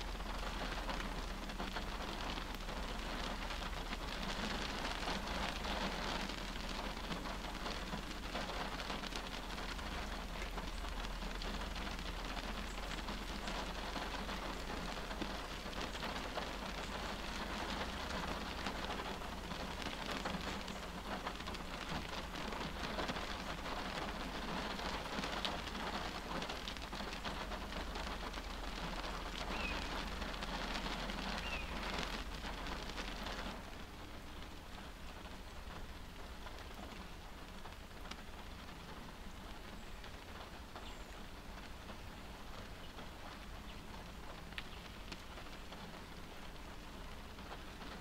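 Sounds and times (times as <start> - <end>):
rain pattering on windshield: 0.0 - 48.0.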